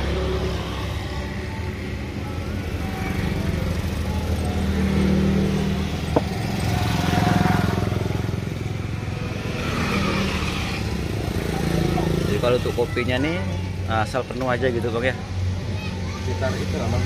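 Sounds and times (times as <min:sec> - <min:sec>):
motorcycle and traffic engines: 0:00.0 - 0:17.0.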